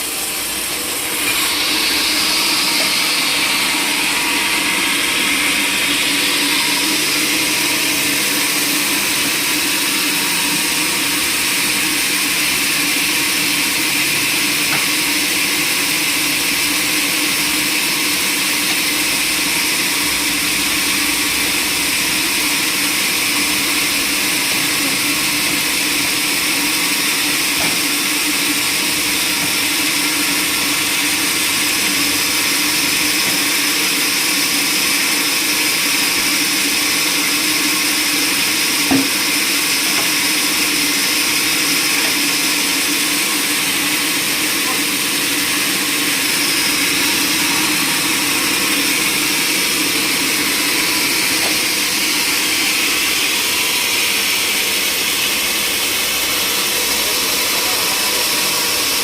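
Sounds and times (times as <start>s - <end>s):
sawmill saw droning with whine: 0.0s - 59.0s.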